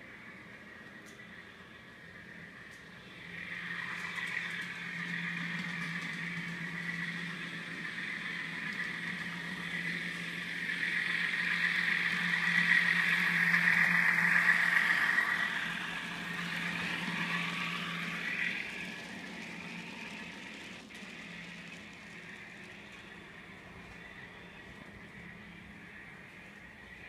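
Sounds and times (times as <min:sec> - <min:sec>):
thin diesel engine drone from speaker: 0:01.1 - 0:27.0.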